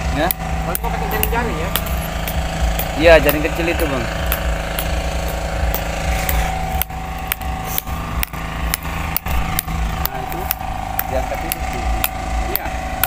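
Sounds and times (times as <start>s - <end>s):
machine humming: 0.0s - 13.0s
sharp repeating click: 0.2s - 13.0s.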